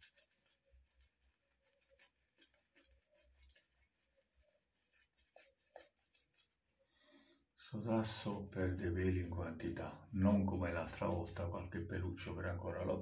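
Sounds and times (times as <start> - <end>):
faint soft rustles and ticks: 0.0 - 6.9, 7.8 - 13.0.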